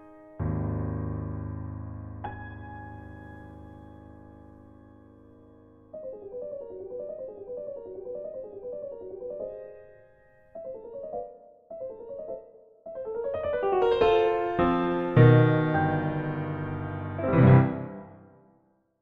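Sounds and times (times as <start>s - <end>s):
solo piano: 0.0s - 18.8s.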